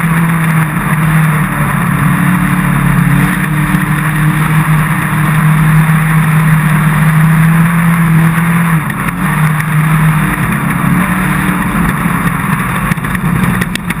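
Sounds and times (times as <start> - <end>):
race car engine running: 0.0 - 14.0
wind and road noise: 0.0 - 14.0.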